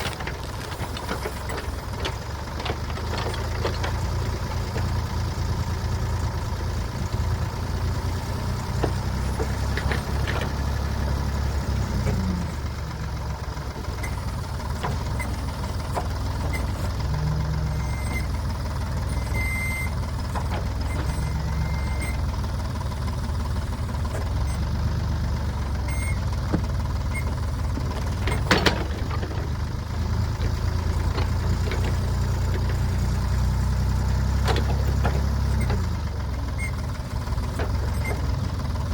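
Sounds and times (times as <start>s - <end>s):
diesel engine running under load: 0.0s - 38.9s.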